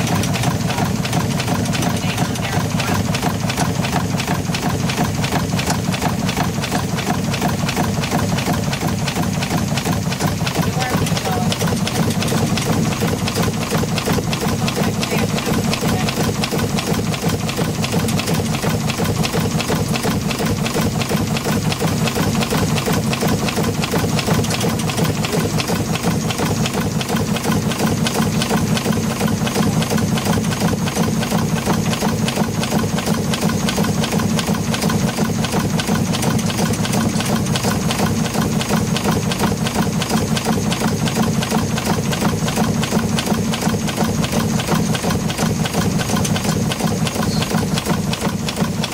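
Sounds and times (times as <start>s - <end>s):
steam engine clattering: 0.0s - 48.9s.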